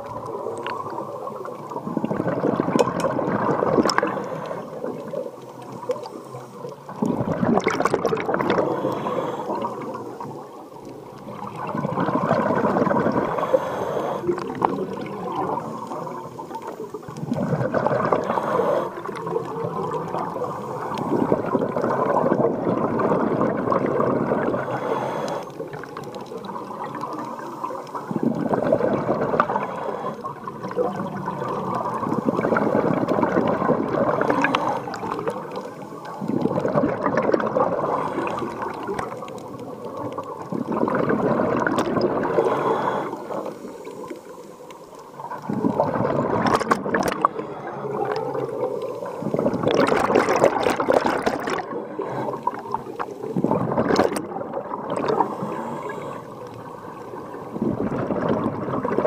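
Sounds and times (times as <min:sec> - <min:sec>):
underwater exhaled bubbles: 0:00.0 - 0:59.0.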